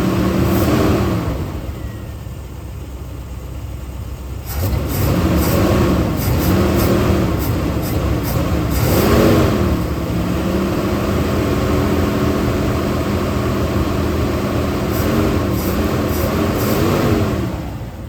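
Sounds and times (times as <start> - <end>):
engine revving and idling: 0.0 - 18.0.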